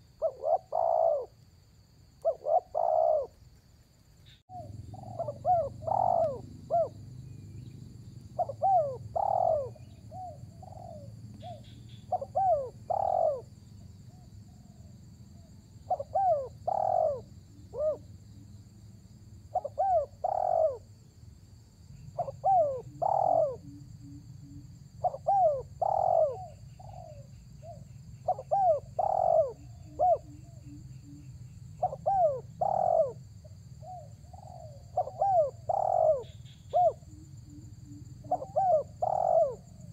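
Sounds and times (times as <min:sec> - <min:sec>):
dove cooing: 0:00.0 - 0:01.4, 0:02.2 - 0:03.4, 0:04.5 - 0:07.1, 0:08.3 - 0:13.5, 0:14.1 - 0:18.5, 0:19.5 - 0:20.9, 0:22.1 - 0:39.9.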